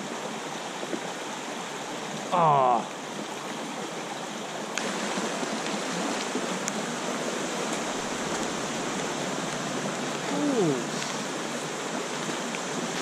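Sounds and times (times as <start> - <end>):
creek flowing over rocks: 0.0 - 13.0.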